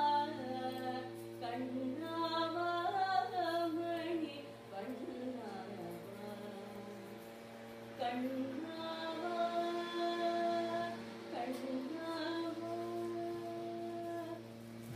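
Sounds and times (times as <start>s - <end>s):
woman singing long held notes: 0.0s - 7.1s, 8.0s - 14.5s
steady drone: 0.0s - 14.9s.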